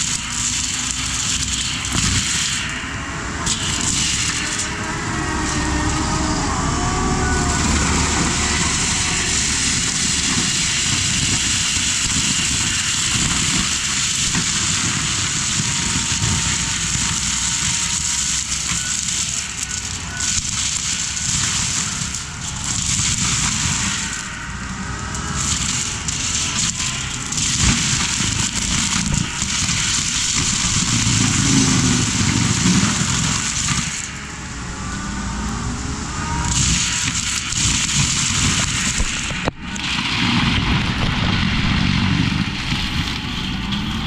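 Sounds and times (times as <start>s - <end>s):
brush crackling and crushing: 0.0s - 44.0s
engine and drum rumble: 0.0s - 44.0s.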